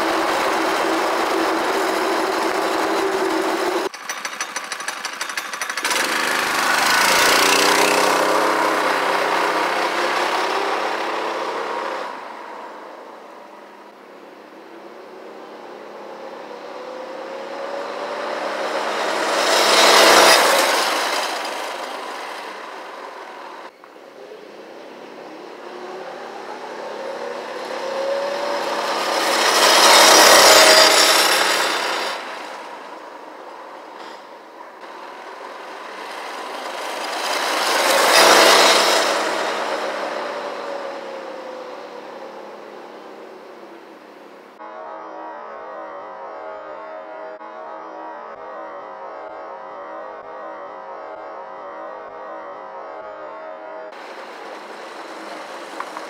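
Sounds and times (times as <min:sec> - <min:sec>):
go-kart engine running: 0:00.0 - 0:44.6, 0:53.9 - 0:56.0.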